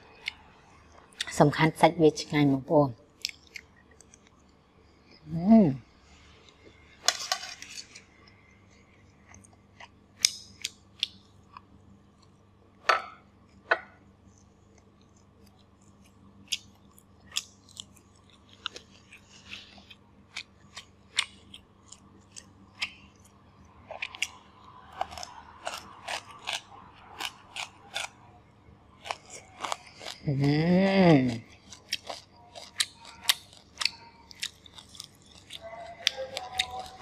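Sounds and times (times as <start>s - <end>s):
person chewing food: 0.0s - 1.4s, 3.1s - 5.3s, 6.0s - 12.5s, 13.4s - 37.0s.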